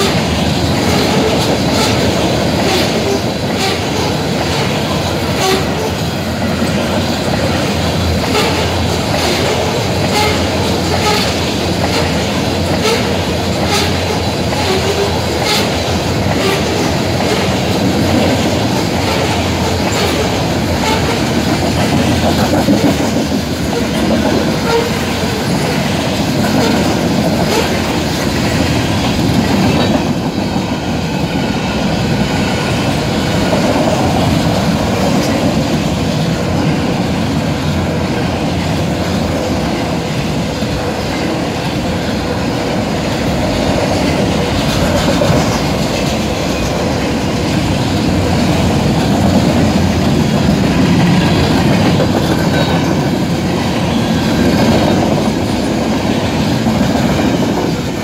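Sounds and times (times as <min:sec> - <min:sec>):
train rumble: 0:00.0 - 0:58.0
train wheels clickety-clack: 0:00.0 - 0:58.0.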